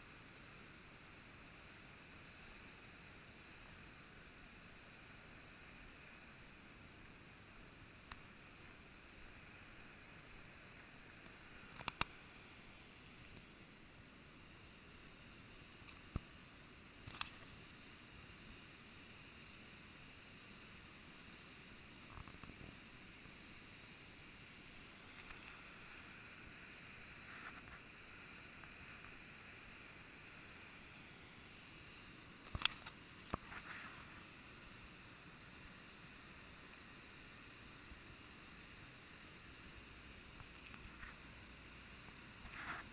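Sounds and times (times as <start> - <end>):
muffled waterfall rush: 0.0 - 42.9.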